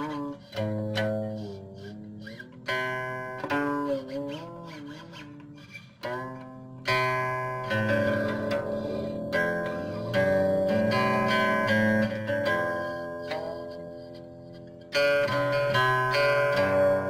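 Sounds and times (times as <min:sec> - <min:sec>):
guqin plucked notes sliding: 0:00.0 - 0:17.0.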